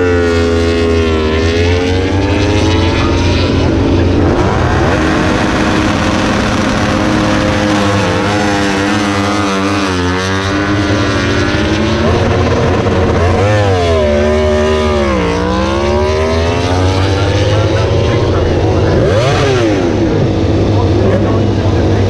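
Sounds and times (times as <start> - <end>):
racing motorcycles accelerating: 0.0 - 22.0.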